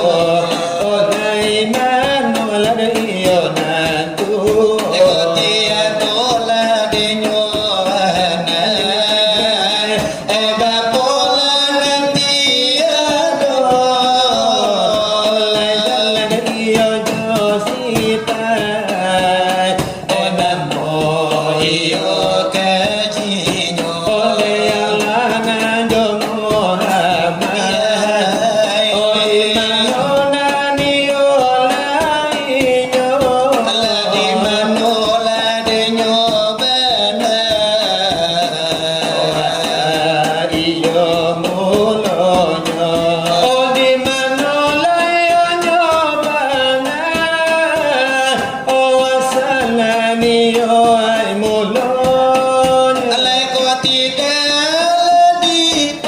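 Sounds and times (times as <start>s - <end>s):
devotional singing: 0.0s - 56.0s.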